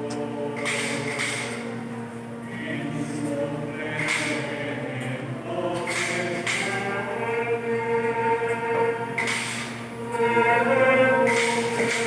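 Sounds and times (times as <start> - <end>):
choir singing a slow hymn: 0.0 - 12.0.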